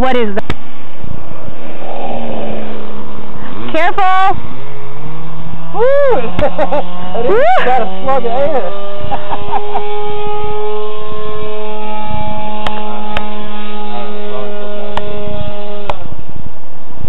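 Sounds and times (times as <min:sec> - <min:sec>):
model plane motor droning: 0:00.0 - 0:17.0.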